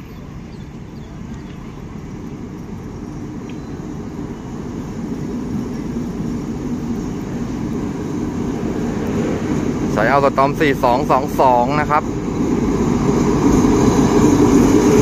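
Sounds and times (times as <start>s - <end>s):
diesel locomotive engine drone: 0.0s - 15.0s
rail rumble: 0.0s - 15.0s.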